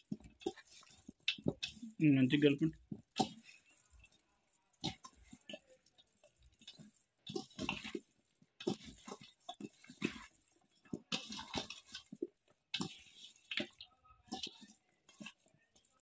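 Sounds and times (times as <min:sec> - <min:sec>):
wet squishing by hand: 0:00.0 - 0:16.0.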